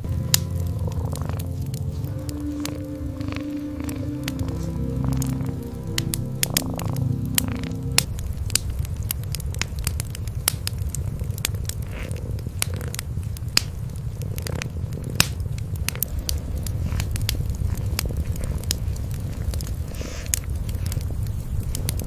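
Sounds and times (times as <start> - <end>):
cats purring: 0.0 - 22.0
wood fire crackling and popping: 0.0 - 22.0.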